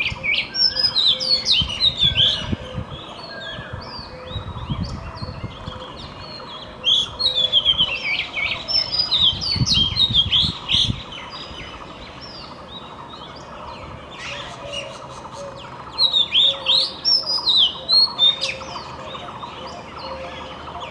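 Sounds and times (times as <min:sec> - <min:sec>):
bird singing whistled notes: 0:00.0 - 0:13.4, 0:15.9 - 0:20.9.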